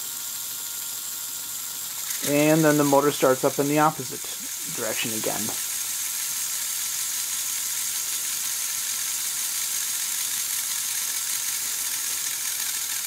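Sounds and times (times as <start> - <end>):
electric motors whirring: 0.0 - 13.0.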